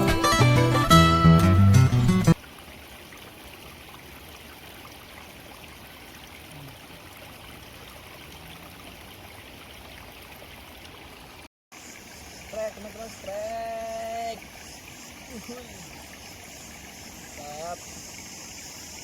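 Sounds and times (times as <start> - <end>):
flowing water rushing: 2.3 - 19.0.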